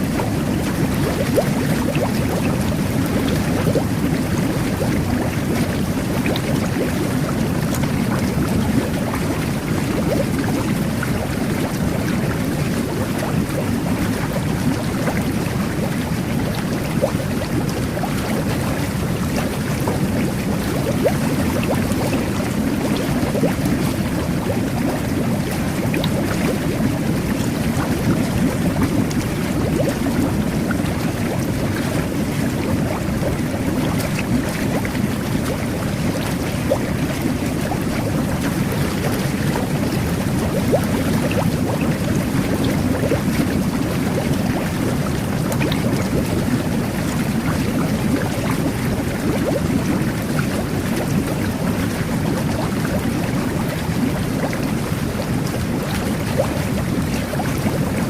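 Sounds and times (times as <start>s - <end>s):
jet bath bubbling water: 0.0s - 58.0s.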